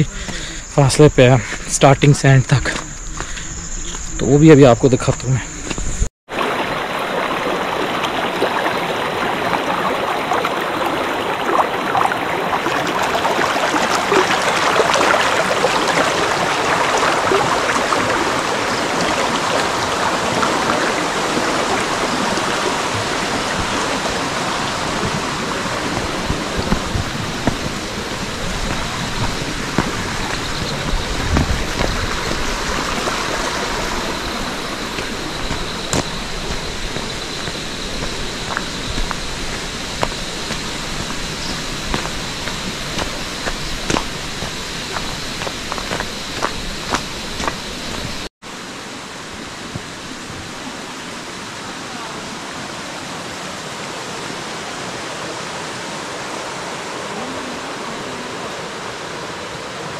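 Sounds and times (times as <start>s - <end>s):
stream rushing over rocks: 6.3s - 59.9s.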